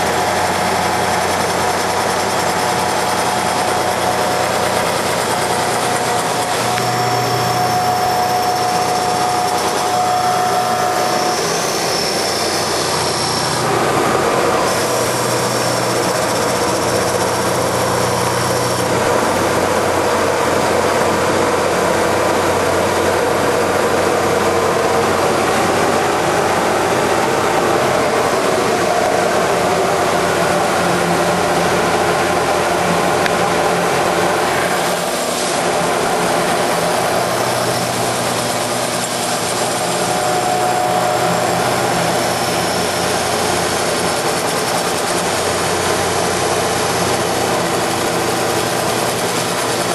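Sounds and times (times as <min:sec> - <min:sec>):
thin steady whine: 0:00.0 - 0:49.9
wood lathe running: 0:00.0 - 0:49.9.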